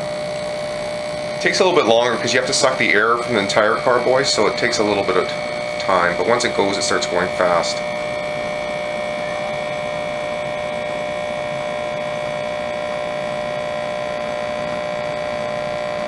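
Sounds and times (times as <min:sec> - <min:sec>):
electric air pump humming: 0:00.0 - 0:16.0.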